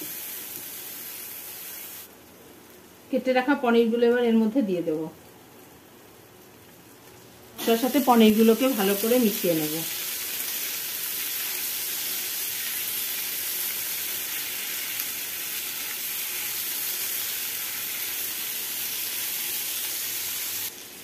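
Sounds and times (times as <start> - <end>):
food sizzling in hot oil: 0.0 - 2.8, 5.2 - 21.0.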